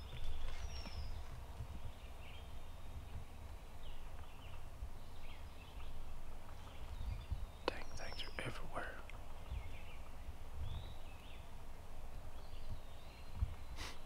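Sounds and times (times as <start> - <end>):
faint songbird chirps: 0.0 - 14.0.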